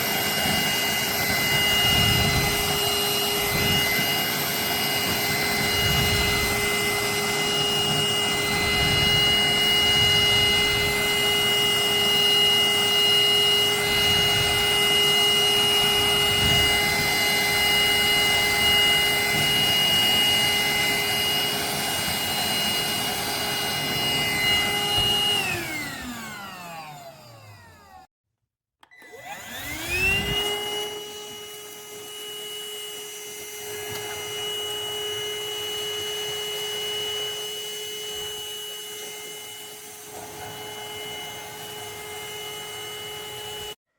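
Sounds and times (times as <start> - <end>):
handheld vacuum cleaner whine: 0.0 - 28.1, 28.8 - 43.9.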